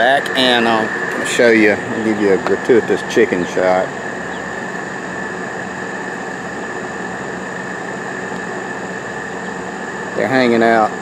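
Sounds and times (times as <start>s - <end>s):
constant high whine: 0.0s - 11.0s
steady drone: 0.0s - 11.0s.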